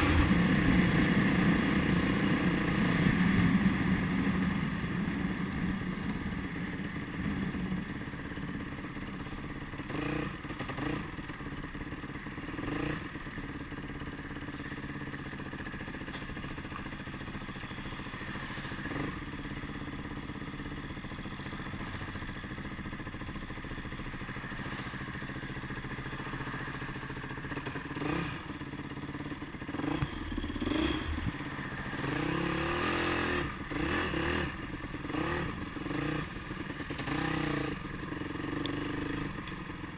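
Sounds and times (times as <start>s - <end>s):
motorcycle engine running: 0.0s - 39.9s
motorcycle rattling: 0.0s - 39.9s.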